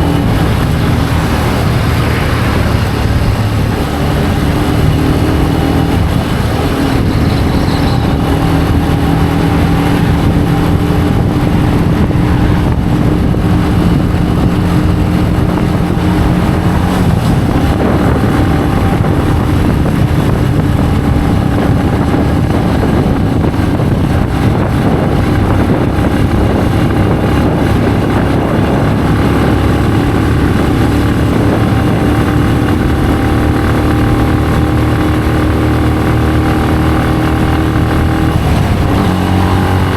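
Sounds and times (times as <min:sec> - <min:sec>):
motorcycle engine running: 0:00.0 - 0:39.9
road noise: 0:00.0 - 0:39.9
rushing wind: 0:00.0 - 0:39.9.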